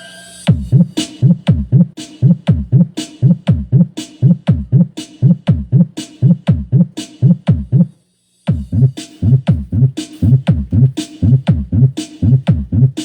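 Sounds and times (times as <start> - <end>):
heavy bass kick: 0.5 - 13.0
snare or clap hits: 1.0 - 7.9, 9.0 - 12.6.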